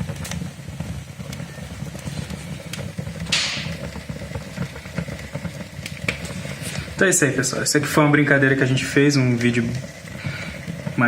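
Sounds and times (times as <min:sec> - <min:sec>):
fire crackles and pops: 0:00.0 - 0:11.0
fire low rumble: 0:00.0 - 0:11.0.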